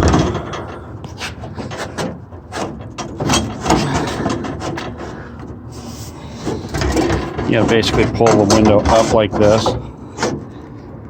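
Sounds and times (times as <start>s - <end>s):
glass scraping in door: 0.0s - 10.4s.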